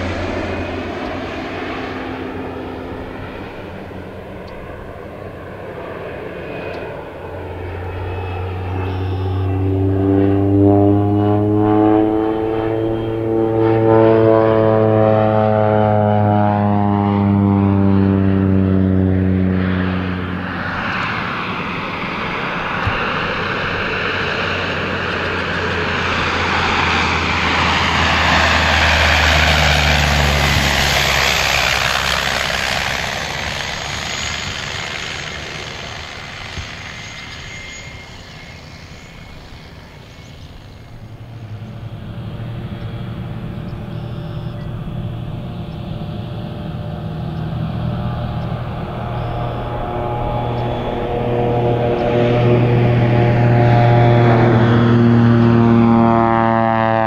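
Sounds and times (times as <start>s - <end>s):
propeller plane flying past: 0.0s - 57.0s.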